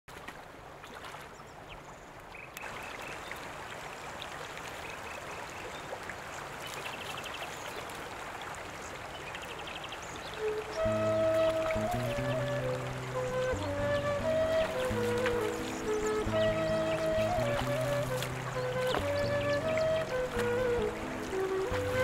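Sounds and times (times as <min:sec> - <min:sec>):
river running over stones: 0:00.1 - 0:22.0.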